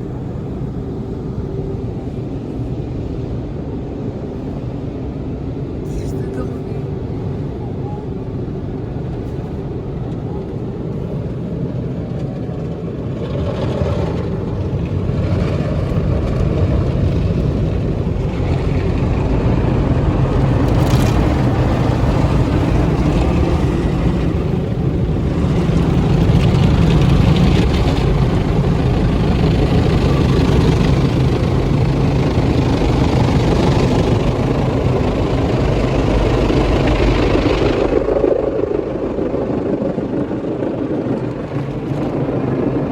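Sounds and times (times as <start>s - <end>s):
car wash equipment humming: 0.0s - 12.5s, 13.2s - 37.7s.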